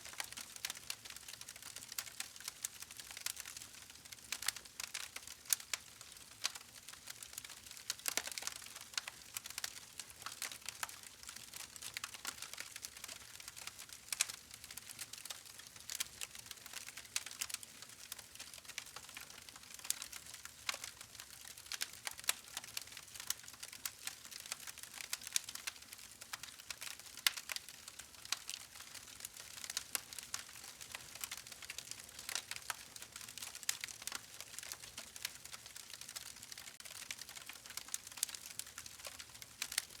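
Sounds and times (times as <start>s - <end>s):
faint steady hiss: 0.0s - 40.0s
wood fire crackling: 0.1s - 40.0s.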